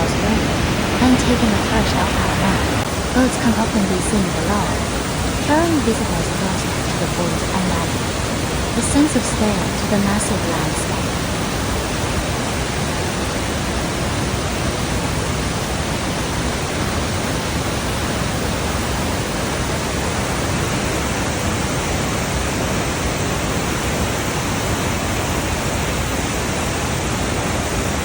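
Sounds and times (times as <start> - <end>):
large waterfall rushing: 0.0 - 28.0.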